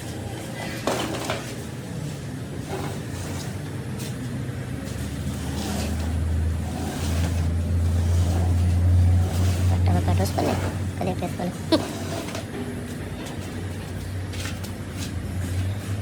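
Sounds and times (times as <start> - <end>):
heavy machine engine humming: 0.0 - 16.0.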